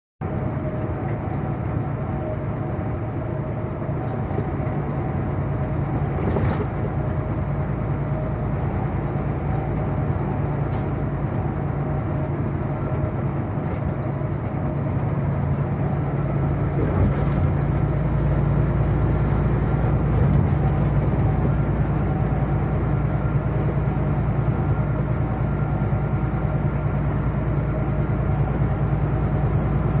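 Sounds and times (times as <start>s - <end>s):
diesel truck engine drone: 0.2s - 30.0s
road and tyre noise: 0.2s - 30.0s.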